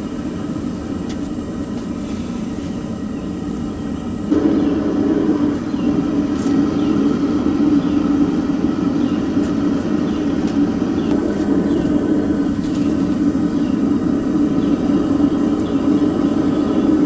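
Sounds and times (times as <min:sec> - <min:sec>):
gas burner rushing: 0:00.0 - 0:17.0.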